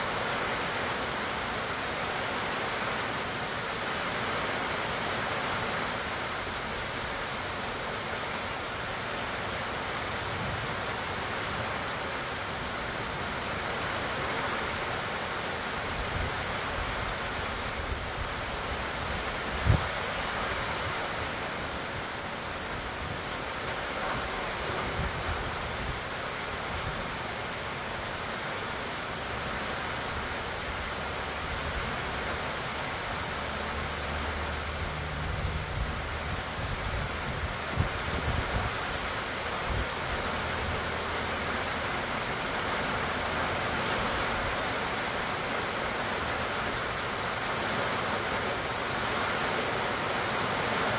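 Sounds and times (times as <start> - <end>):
rain on trees and grass: 0.0 - 50.9.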